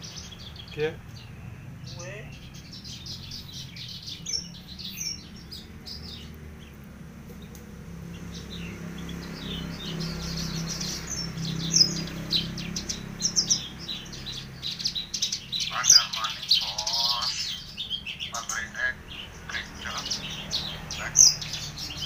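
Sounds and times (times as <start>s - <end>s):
lark singing chirps and trills: 0.0s - 22.0s.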